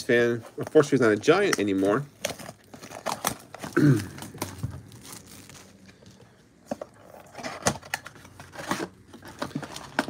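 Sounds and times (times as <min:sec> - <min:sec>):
cardboard rustling: 0:00.0 - 0:10.0.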